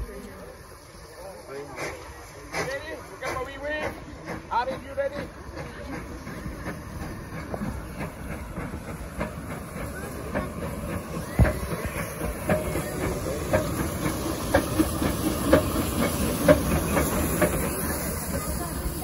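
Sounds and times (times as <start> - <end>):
steam hissing from locomotive: 0.0 - 19.0
locomotive clanking: 0.1 - 19.0.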